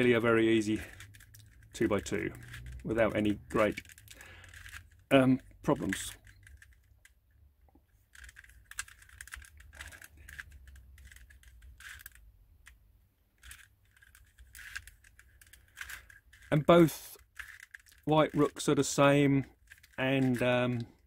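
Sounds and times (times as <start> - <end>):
puzzle clicking and scraping: 0.0 - 21.0.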